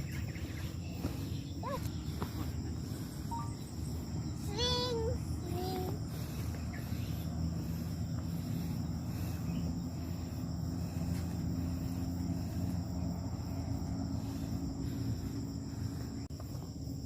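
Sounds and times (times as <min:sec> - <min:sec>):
low rumbling noise: 0:00.0 - 0:16.3
insects droning: 0:00.0 - 0:17.0.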